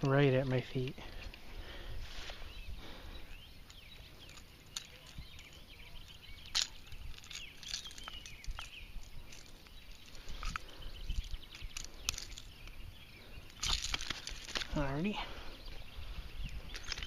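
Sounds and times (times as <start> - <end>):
small birds chirping: 0.0 - 17.0
wind rumble on microphone: 1.5 - 17.0.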